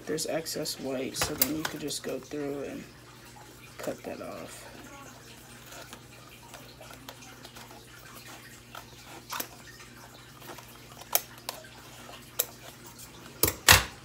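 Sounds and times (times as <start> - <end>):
fish tank filter trickling: 0.0 - 14.0.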